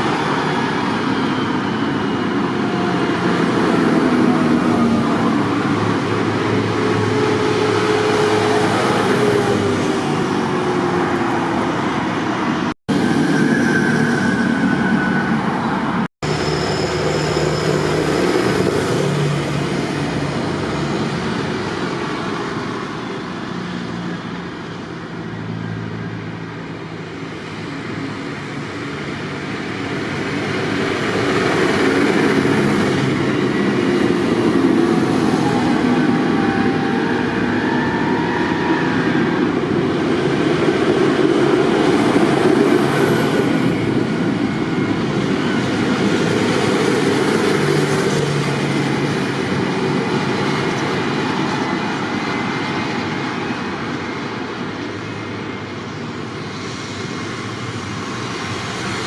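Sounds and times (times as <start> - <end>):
tractor engines rumbling: 0.0 - 59.0.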